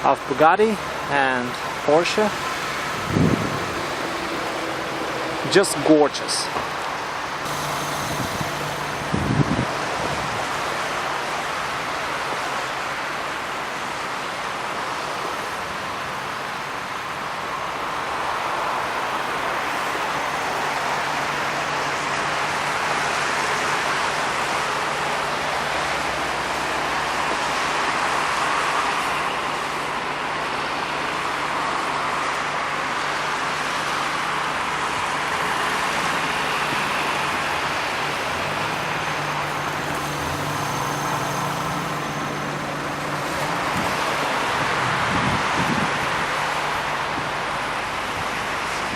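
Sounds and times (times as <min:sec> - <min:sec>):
road traffic noise: 0:00.0 - 0:48.9.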